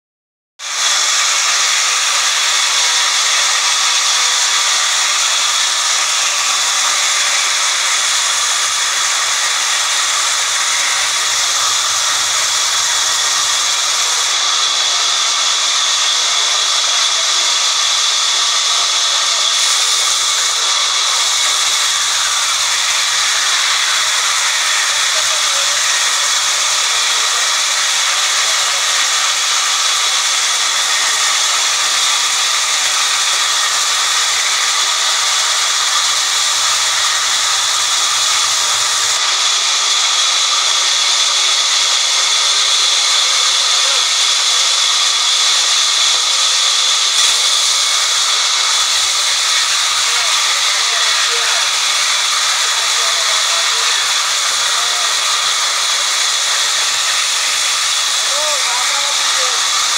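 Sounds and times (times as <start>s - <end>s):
band saw cutting wood: 0.6s - 59.9s.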